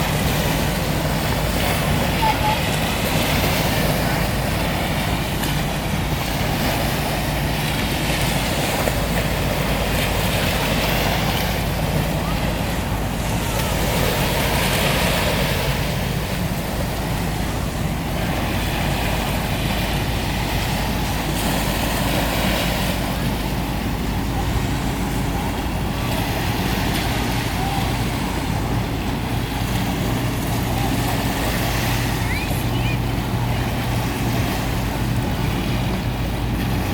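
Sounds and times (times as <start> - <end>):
motor engine humming: 0.0 - 36.9.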